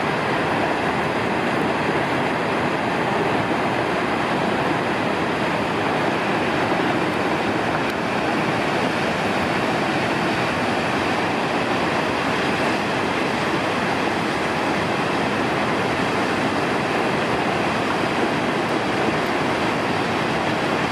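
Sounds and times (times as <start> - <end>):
waterfall roaring: 0.0 - 20.9.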